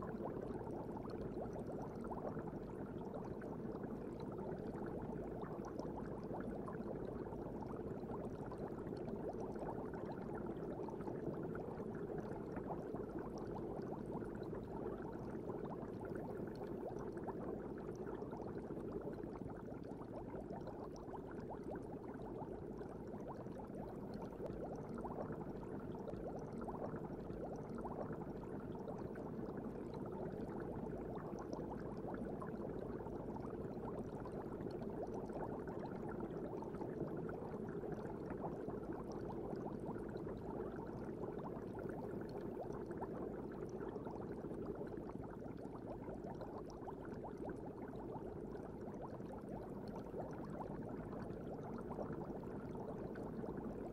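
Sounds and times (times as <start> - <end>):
aquarium bubbling underwater: 0.0 - 53.9.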